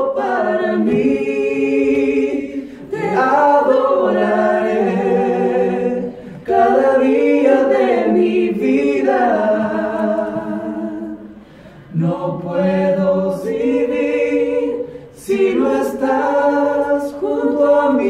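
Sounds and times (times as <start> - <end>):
group singing a cappella: 0.0 - 18.0.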